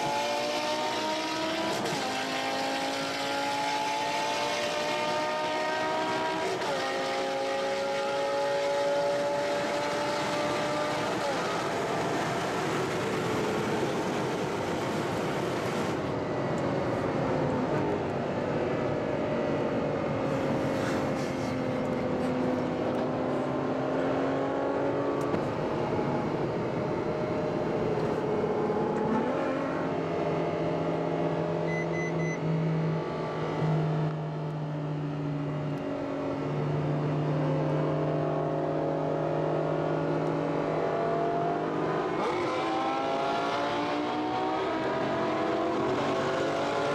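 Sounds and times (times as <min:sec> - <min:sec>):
car engine revving while driving: 0:00.0 - 0:16.8, 0:21.9 - 0:46.9.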